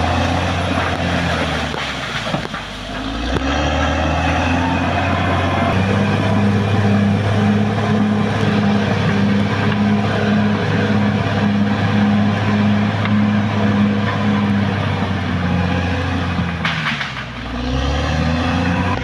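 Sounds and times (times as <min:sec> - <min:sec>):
bulldozer diesel engine: 0:00.0 - 0:19.0.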